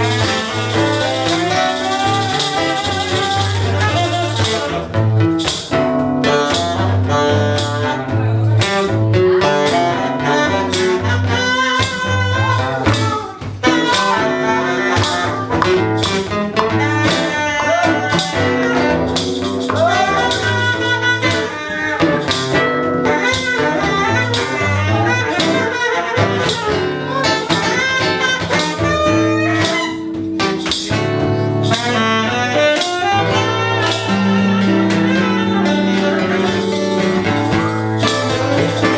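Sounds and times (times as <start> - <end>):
jazz music with walking bass: 0.0 - 38.9.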